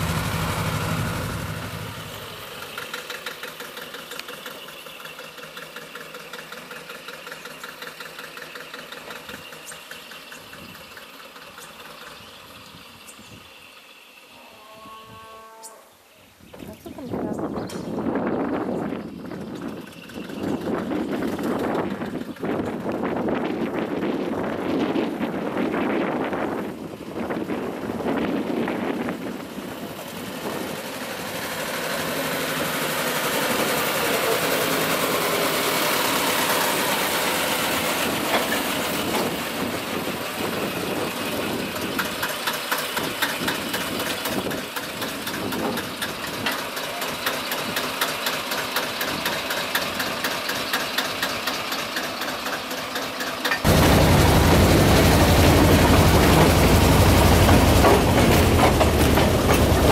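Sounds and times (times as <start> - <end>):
train rumbling along track: 0.0 - 13.8, 16.6 - 59.9
diesel locomotive engine running: 0.0 - 14.3, 17.0 - 59.9.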